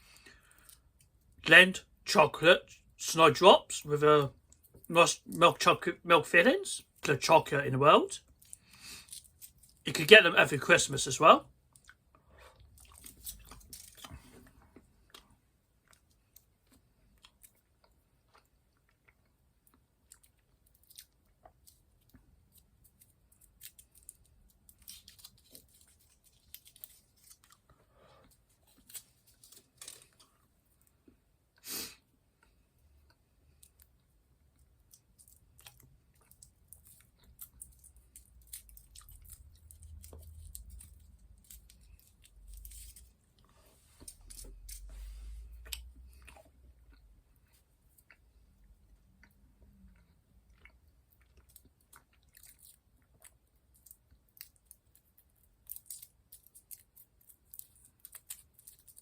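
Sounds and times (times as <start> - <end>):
person chewing chocolate: 8.2 - 9.8, 11.6 - 31.6, 32.3 - 59.0.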